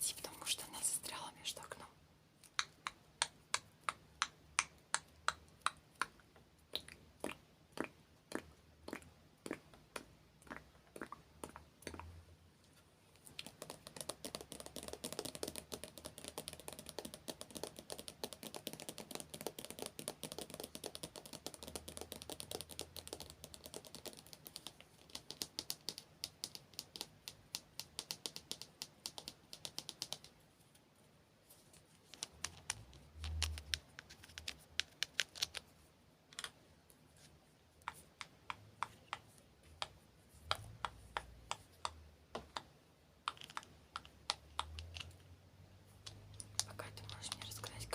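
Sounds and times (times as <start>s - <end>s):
rapid small clicks and taps: 2.4s - 12.2s, 13.2s - 30.4s, 31.7s - 35.7s, 37.8s - 45.2s.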